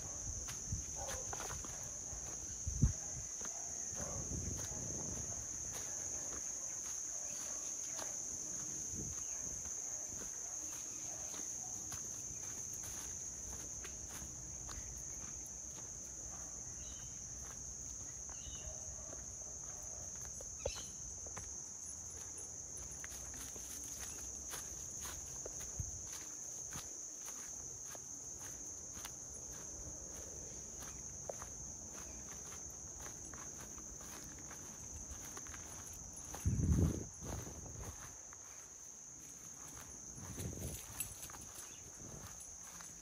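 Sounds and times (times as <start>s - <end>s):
insects chirping: 0.0s - 43.0s
footsteps crunching on leaves: 4.3s - 43.0s.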